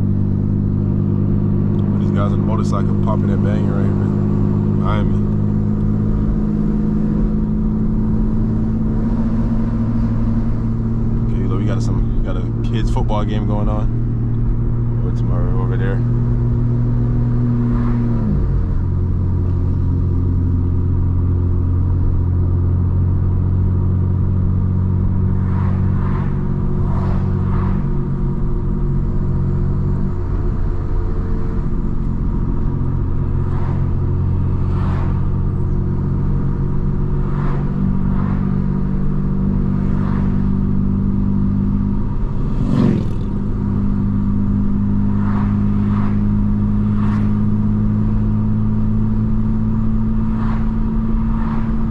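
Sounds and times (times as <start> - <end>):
car engine droning: 0.0 - 51.9.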